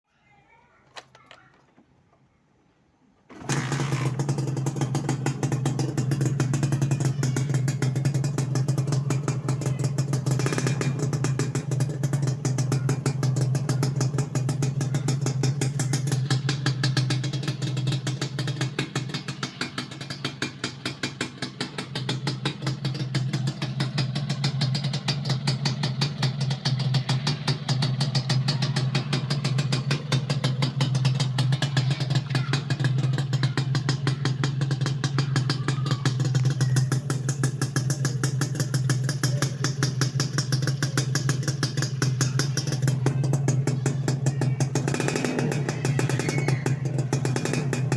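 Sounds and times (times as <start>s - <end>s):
motorcycle engine idling: 3.3s - 47.9s.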